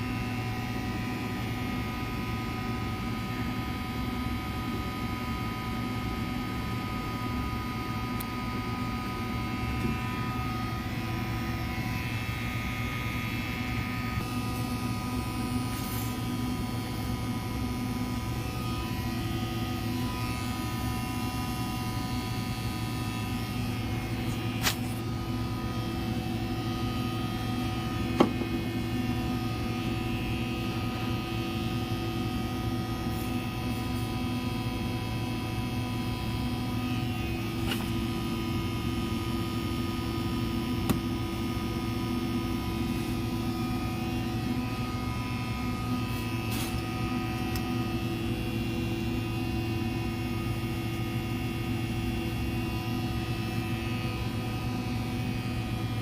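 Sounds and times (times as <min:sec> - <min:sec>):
electrical equipment hum: 0:00.0 - 0:56.0.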